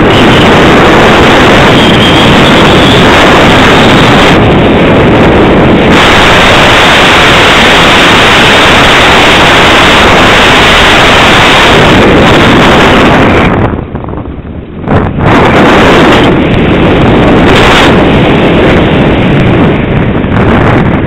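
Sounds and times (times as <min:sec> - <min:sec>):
airflow buffeting microphone: 0:00.0 - 0:21.0.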